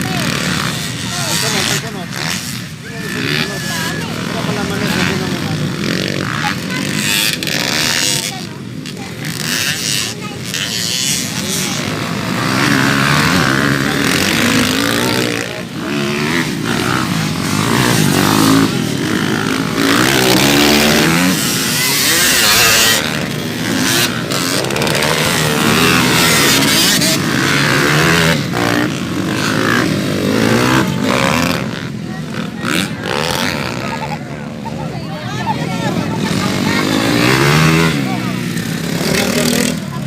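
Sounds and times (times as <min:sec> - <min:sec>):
dirt bike engines revving: 0:00.0 - 0:40.0.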